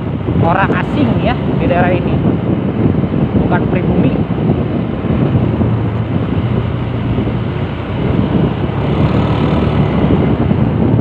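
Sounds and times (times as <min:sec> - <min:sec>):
motorcycle engine running: 0:00.0 - 0:11.0
wind over microphone: 0:00.0 - 0:11.0.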